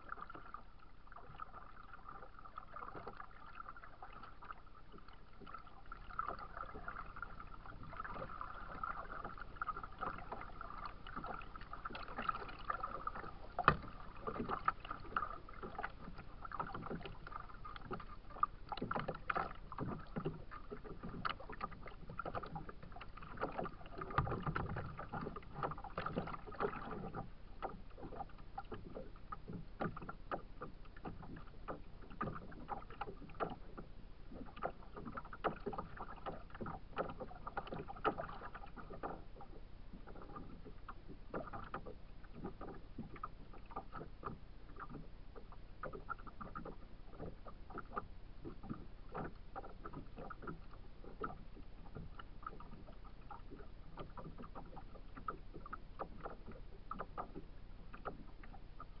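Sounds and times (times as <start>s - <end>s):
waves lapping against kayak hull: 0.0s - 59.0s.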